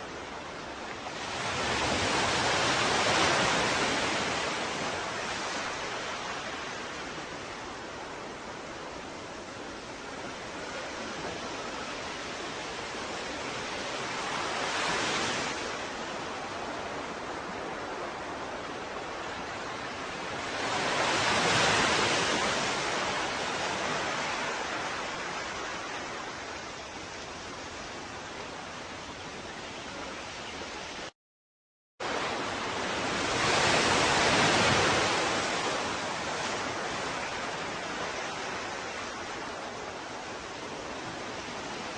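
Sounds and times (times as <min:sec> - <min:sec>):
ocean waves breaking on shore: 0:00.0 - 0:31.1, 0:32.0 - 0:41.9.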